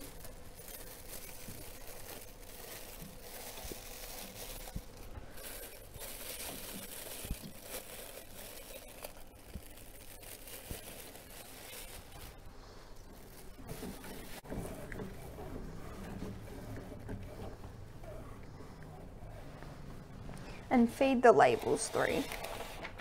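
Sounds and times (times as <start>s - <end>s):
plastic film crinkling: 0.0s - 23.0s.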